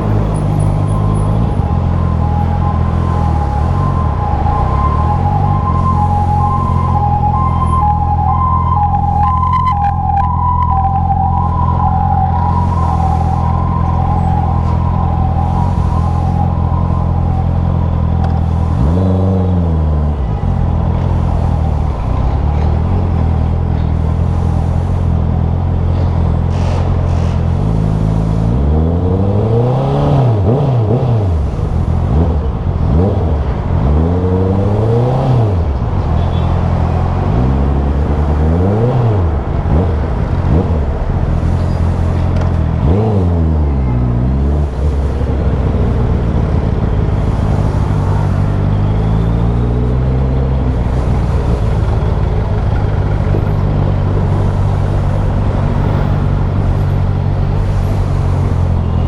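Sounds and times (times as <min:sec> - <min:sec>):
road noise: 0:00.0 - 0:59.0
vehicle engine revving: 0:00.0 - 0:59.0.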